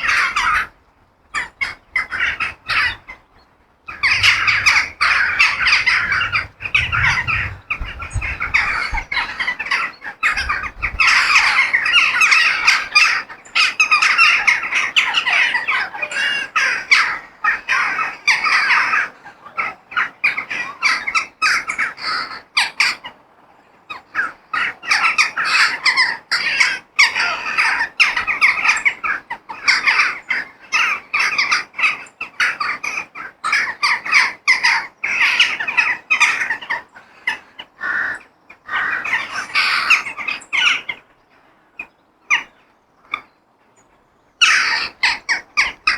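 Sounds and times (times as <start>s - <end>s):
crows cawing: 0.0s - 0.8s, 1.4s - 3.2s, 3.9s - 23.2s, 23.9s - 41.1s, 44.4s - 45.9s.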